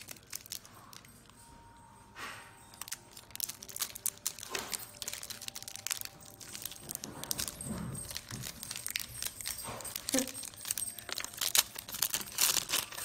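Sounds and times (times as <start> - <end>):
wrapper crinkling and tearing: 0.0 - 1.4, 2.6 - 13.0.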